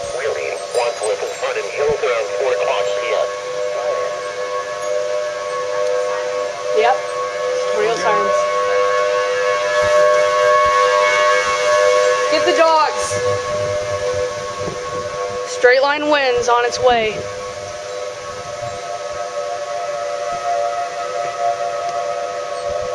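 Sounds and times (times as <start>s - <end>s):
tornado warning siren steady tone: 0.0s - 22.9s.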